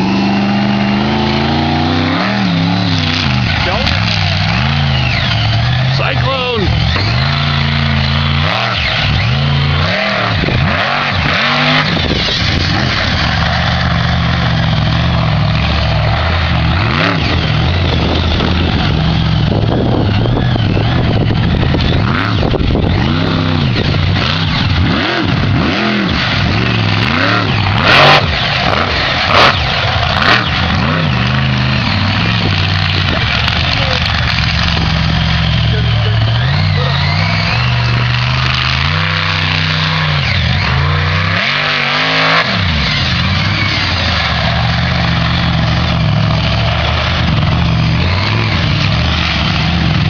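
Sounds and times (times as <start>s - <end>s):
truck engine revving: 0.0s - 50.0s.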